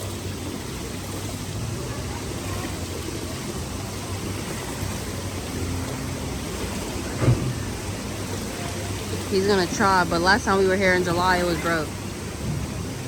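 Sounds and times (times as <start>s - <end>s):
water rushing and splashing: 0.0s - 13.0s.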